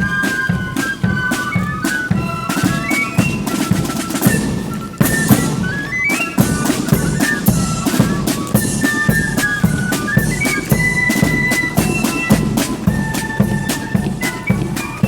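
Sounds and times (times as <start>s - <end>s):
flutes playing melody: 0.0s - 15.0s
snare drum beats: 0.0s - 15.0s.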